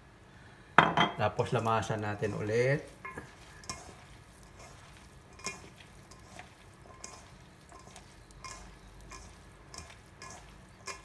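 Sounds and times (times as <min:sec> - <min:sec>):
hands tossing salad in bowl: 0:01.4 - 0:11.0.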